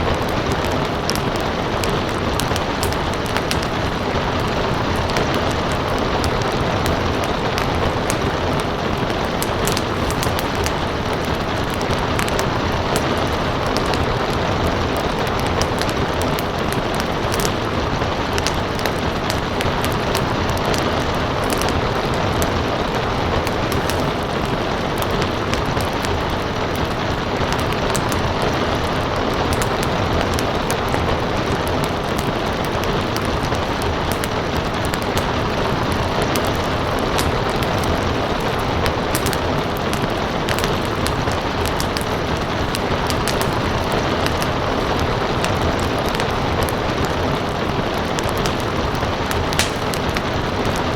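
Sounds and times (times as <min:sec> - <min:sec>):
steady rain: 0:00.0 - 0:50.9
wood fire crackling and popping: 0:00.0 - 0:50.9.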